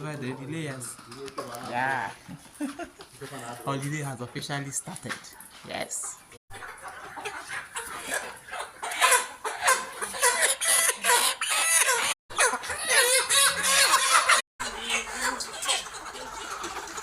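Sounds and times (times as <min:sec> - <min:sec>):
hens clucking: 0:02.2 - 0:17.0.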